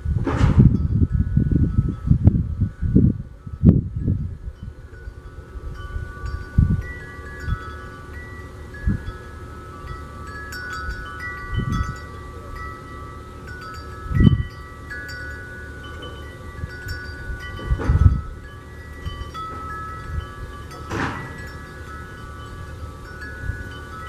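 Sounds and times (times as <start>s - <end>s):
wind buffeting microphone: 0.0s - 24.0s
wind chimes ringing: 0.7s - 24.0s.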